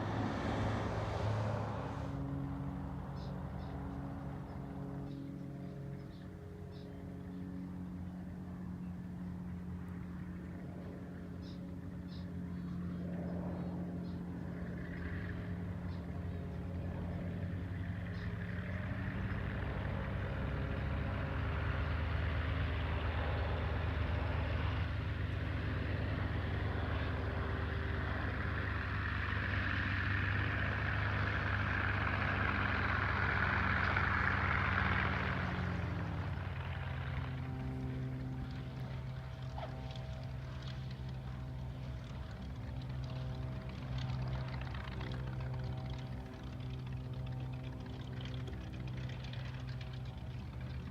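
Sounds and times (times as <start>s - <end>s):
propeller plane engine drone: 0.0s - 50.9s.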